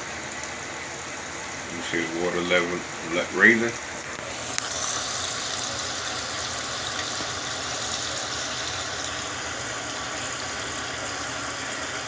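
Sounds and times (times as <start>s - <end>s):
water running into tub: 0.0s - 12.0s.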